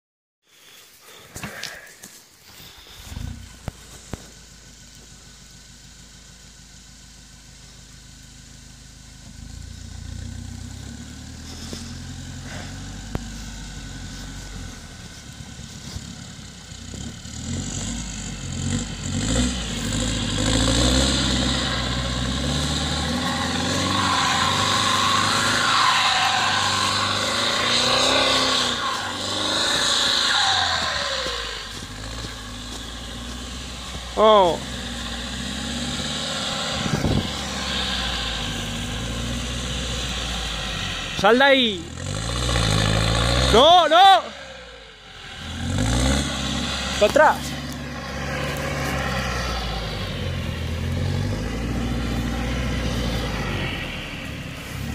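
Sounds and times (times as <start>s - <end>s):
diesel engine driving uphill: 0.5s - 54.9s.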